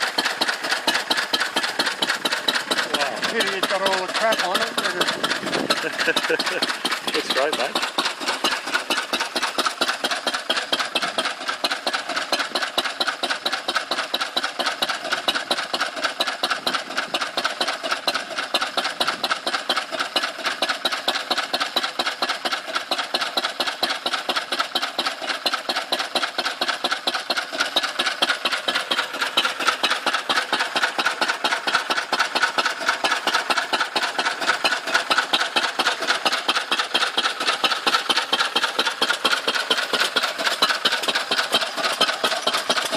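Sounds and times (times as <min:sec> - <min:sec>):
stationary engine running: 0:00.0 - 0:42.9.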